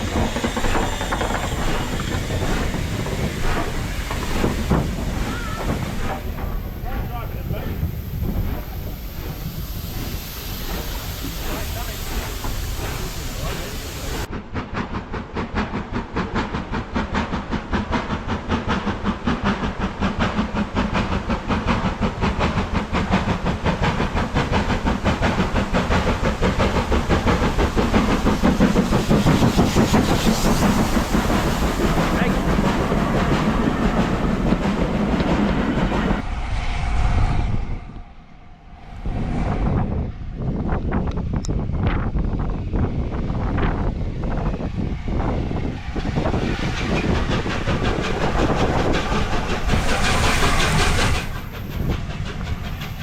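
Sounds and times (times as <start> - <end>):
train passing at speed: 0.0 - 53.0.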